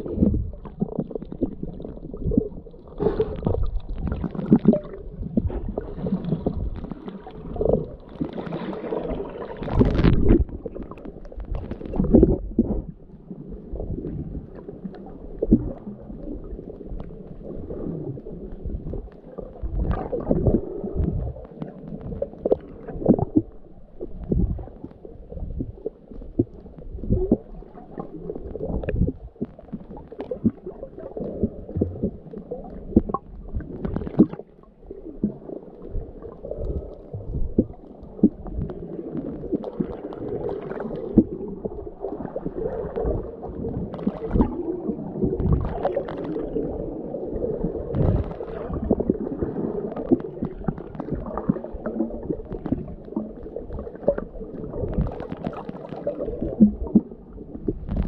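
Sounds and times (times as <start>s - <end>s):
water rushing and gurgling underwater: 0.0s - 58.0s.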